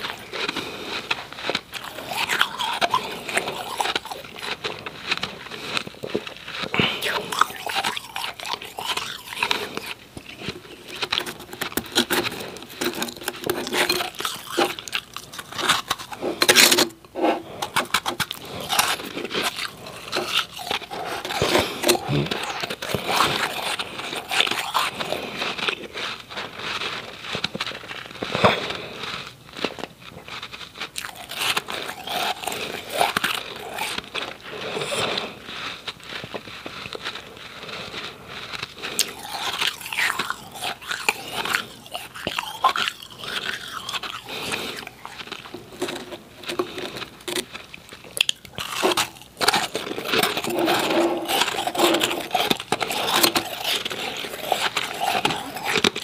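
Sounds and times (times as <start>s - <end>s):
chewing crunchy ice cubes: 0.0s - 56.0s.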